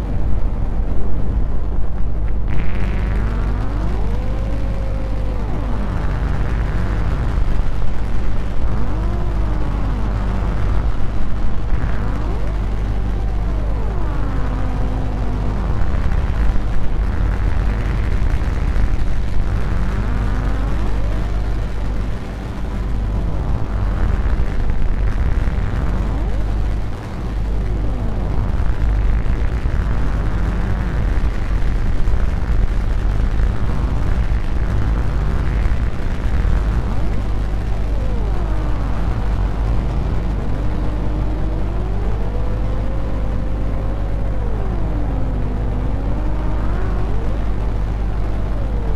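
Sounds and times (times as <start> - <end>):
rumbling noise drone: 0.0 - 48.9.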